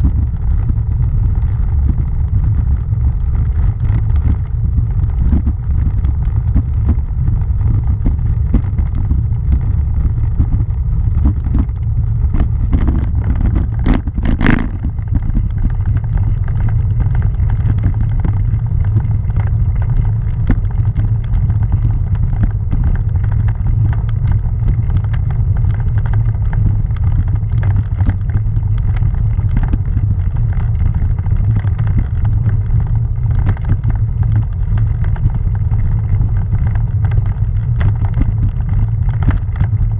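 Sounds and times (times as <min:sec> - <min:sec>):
tyres rumbling over cobblestones: 0:00.0 - 0:39.9.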